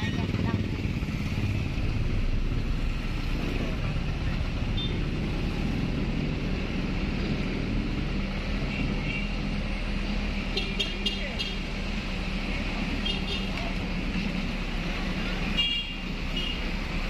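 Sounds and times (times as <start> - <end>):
road noise: 0.0 - 17.0
van engine hum: 0.0 - 17.0.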